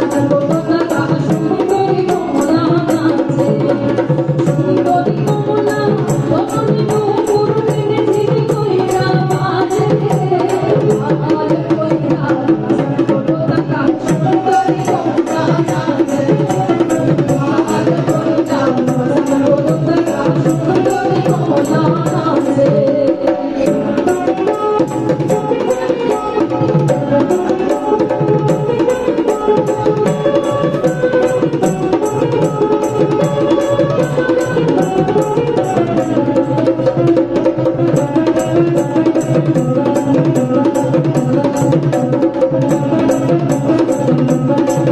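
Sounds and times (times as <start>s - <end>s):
hand drum rhythm: 0.0s - 44.9s.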